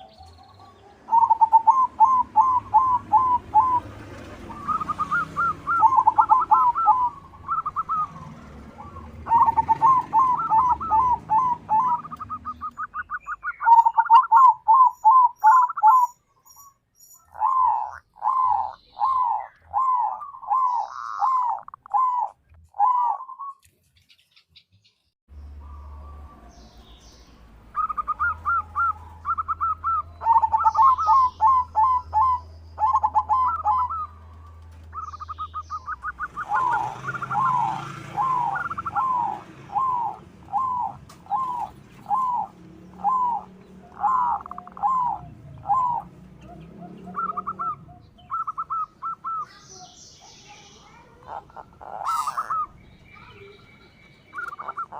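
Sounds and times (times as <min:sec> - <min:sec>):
dove cooing: 0:00.0 - 0:16.1, 0:17.3 - 0:23.4, 0:27.8 - 0:49.8, 0:50.8 - 0:53.6, 0:54.3 - 0:54.9.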